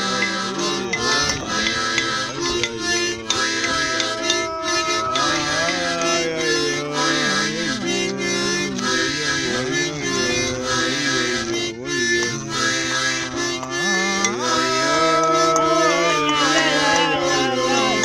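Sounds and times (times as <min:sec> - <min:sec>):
harmonica playing chords: 0:00.0 - 0:18.0.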